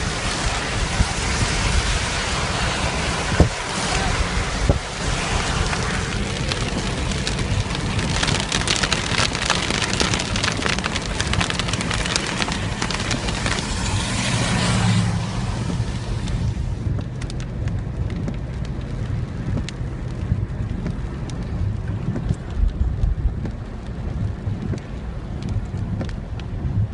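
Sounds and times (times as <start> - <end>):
heavy rain falling: 0.0 - 26.9
low steady rumble: 0.0 - 26.9.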